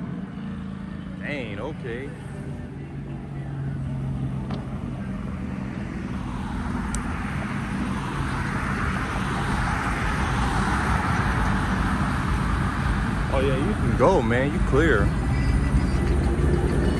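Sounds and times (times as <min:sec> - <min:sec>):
car engines idling: 0:00.0 - 0:16.9.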